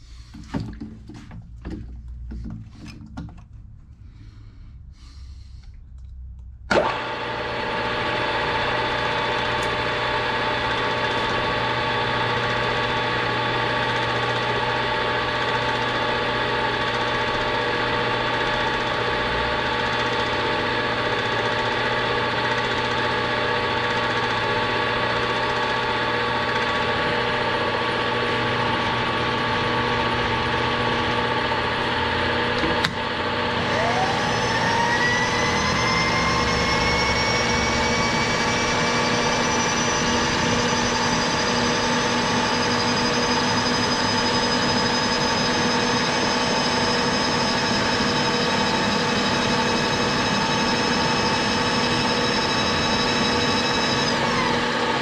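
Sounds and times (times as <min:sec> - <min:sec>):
milling machine motor hum: 0:06.7 - 0:55.0
motor whine spinning up: 0:06.7 - 0:55.0.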